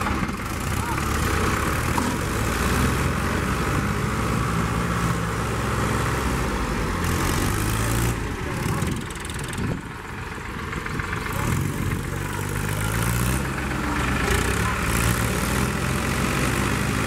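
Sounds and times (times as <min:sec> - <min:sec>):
tractor diesel engines under load: 0:00.0 - 0:17.0.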